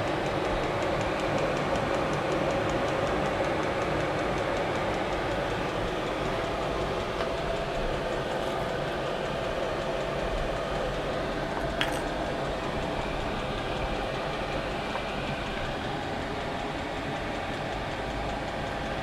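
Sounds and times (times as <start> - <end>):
air heater fan and burner: 0.0 - 19.0
constant hum: 0.0 - 19.0.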